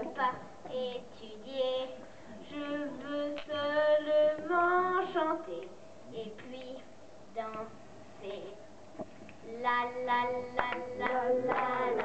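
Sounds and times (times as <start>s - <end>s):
girl singing into microphone: 0.0s - 8.6s, 9.4s - 12.0s.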